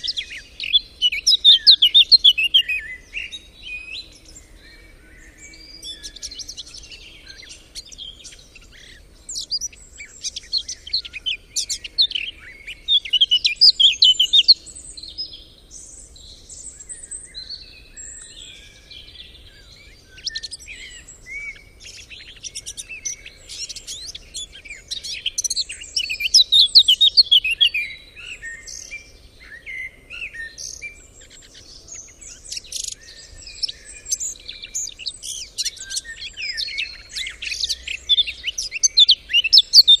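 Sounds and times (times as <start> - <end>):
rapid trilling birdsong: 0.0 - 40.0
small birds singing and chirping: 0.0 - 40.0.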